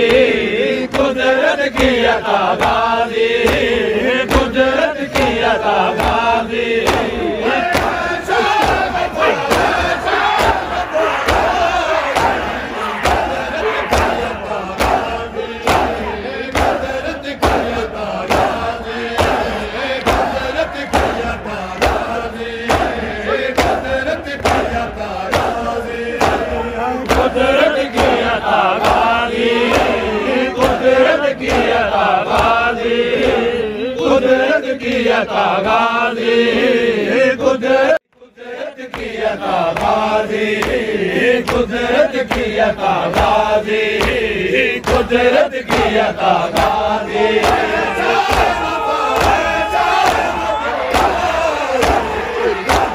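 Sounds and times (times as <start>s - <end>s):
chest-beating slaps: 0.0s - 33.5s, 38.9s - 52.9s
men chanting in unison: 0.0s - 52.9s.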